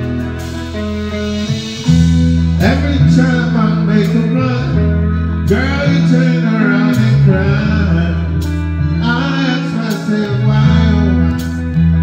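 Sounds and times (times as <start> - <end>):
bass line: 0.0 - 12.0
drums: 0.0 - 12.0
electric guitar melody: 0.0 - 12.0.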